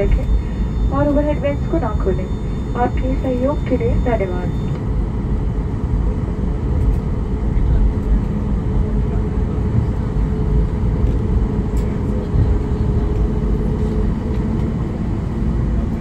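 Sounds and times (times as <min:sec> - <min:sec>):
airplane cabin rumble taxiing: 0:00.0 - 0:16.0
steady hum: 0:00.0 - 0:16.0.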